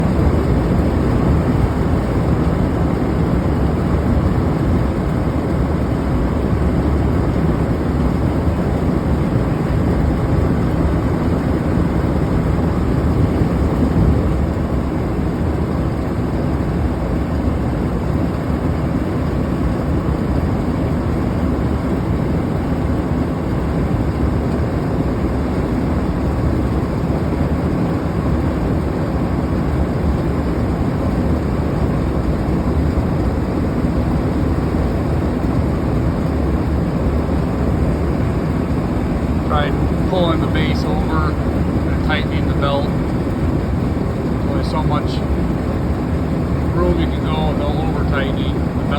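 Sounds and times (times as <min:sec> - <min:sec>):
exhaust fan rumbling roar: 0:00.0 - 0:48.9.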